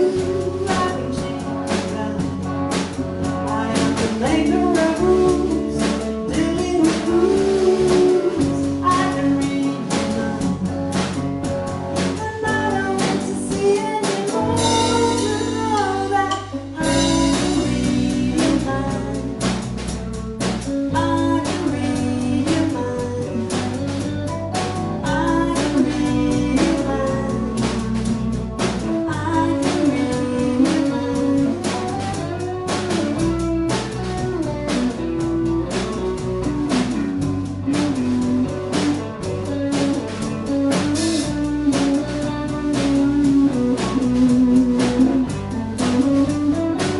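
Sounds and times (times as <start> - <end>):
band music with vocals: 0.0 - 46.9.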